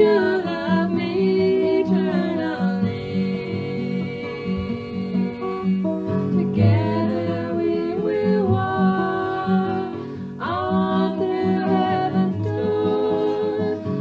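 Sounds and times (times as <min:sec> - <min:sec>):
person singing: 0:00.0 - 0:05.8, 0:06.4 - 0:14.0
acoustic guitar: 0:00.0 - 0:14.0.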